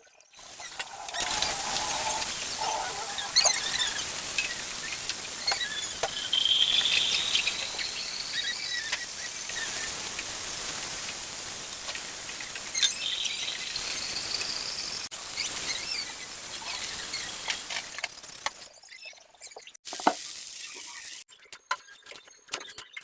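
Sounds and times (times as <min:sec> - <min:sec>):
food sizzling in a hot pan: 0:00.4 - 0:18.0, 0:19.9 - 0:21.3.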